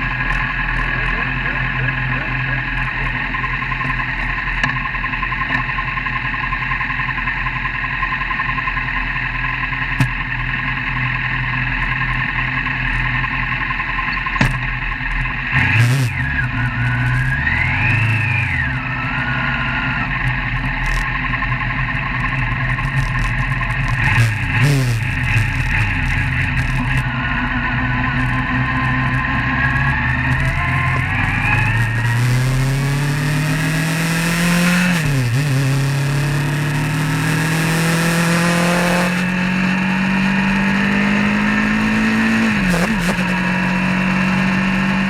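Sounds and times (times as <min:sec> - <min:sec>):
road noise: 0:00.0 - 0:45.0
vehicle engine running: 0:00.0 - 0:45.0.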